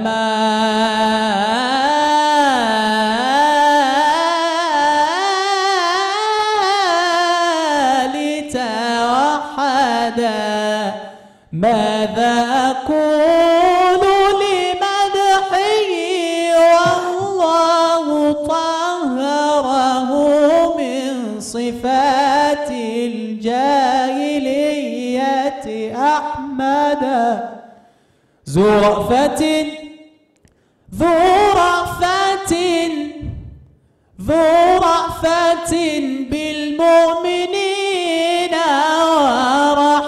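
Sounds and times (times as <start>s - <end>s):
man singing unaccompanied: 0.0s - 27.7s, 28.4s - 30.2s, 30.9s - 33.6s, 34.2s - 40.0s.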